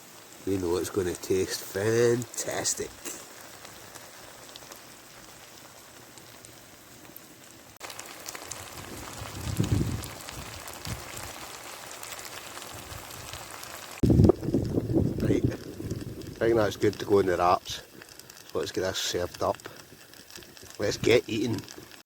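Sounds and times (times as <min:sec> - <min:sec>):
meat sizzling in a skillet: 0:00.0 - 0:22.0.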